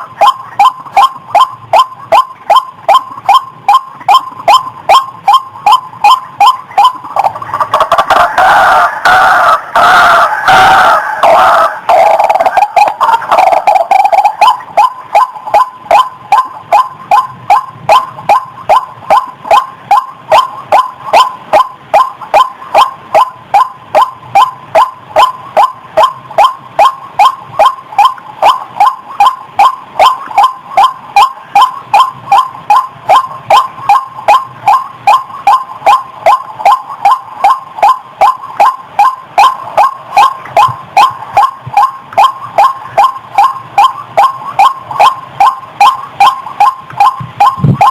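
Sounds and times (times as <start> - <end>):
waterhen calling: 0.0 - 47.9.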